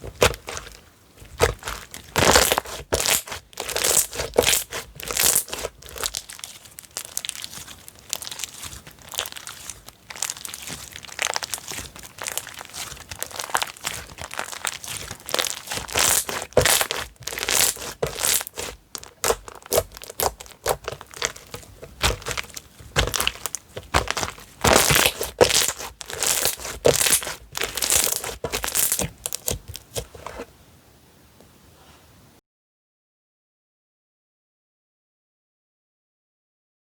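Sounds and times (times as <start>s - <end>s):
slime crackling and popping: 0.0s - 30.4s.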